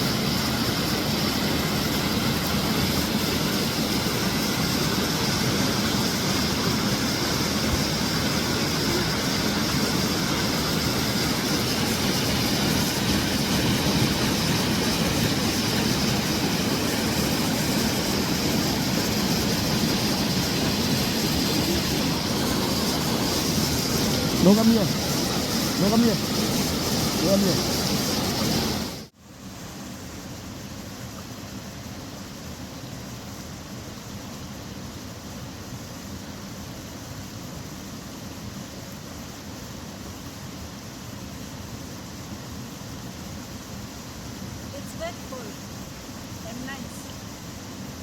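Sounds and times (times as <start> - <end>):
waterfall roaring: 0.0 - 36.4, 37.0 - 48.0.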